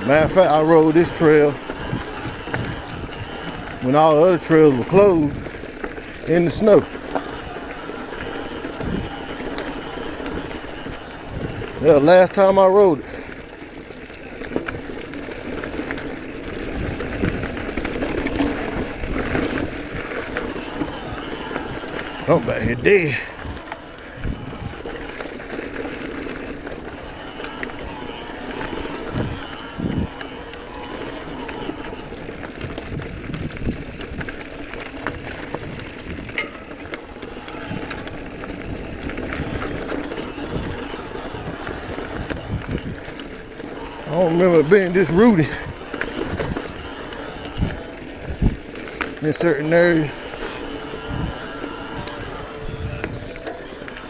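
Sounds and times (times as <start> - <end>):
bike clicks and rattles: 0.0 - 54.0
tyres rumbling on dirt: 0.0 - 54.0.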